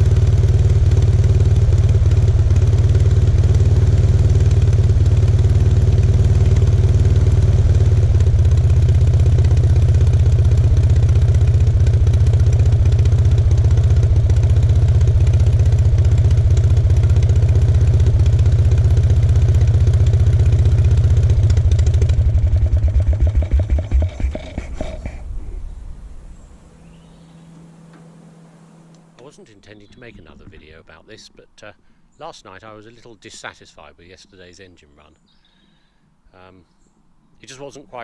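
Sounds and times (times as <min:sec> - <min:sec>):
propeller aircraft engine running: 0:00.0 - 0:30.8.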